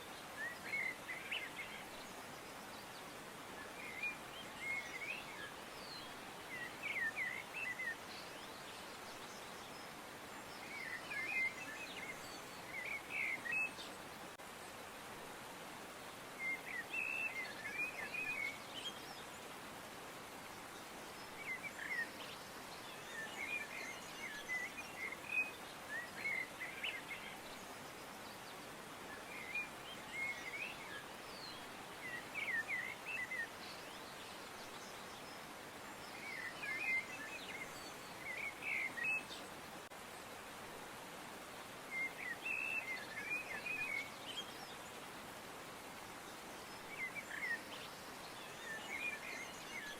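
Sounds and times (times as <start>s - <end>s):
songbirds chirping: 0.0s - 49.9s
steady background hiss: 0.0s - 49.9s.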